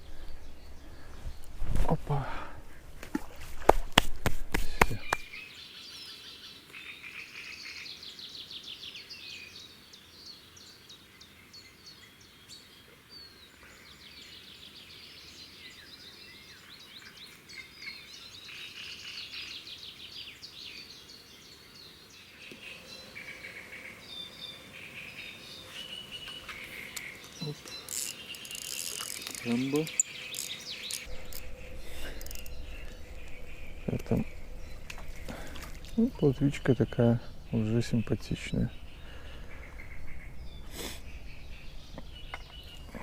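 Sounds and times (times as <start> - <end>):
songbirds chirping and trilling: 0.0 - 3.3, 4.6 - 43.0.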